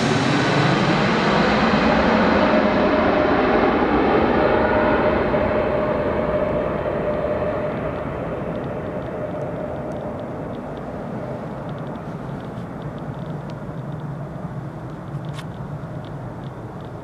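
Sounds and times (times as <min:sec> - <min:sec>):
faint jet engine whine: 0:00.0 - 0:17.0
jet engines rushing: 0:00.0 - 0:17.0.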